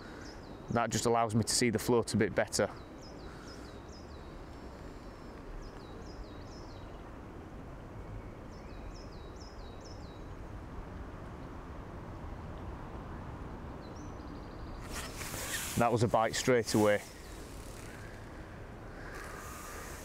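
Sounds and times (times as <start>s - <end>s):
low outdoor background rumble: 0.0s - 20.0s.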